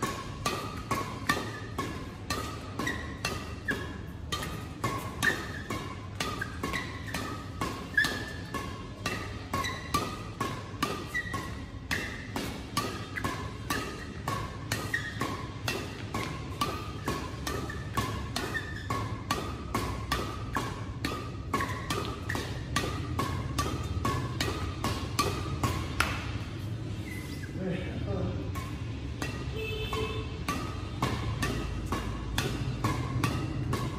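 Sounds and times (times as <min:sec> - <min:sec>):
rackets hitting shuttlecock: 0:00.0 - 0:27.0, 0:28.4 - 0:33.9.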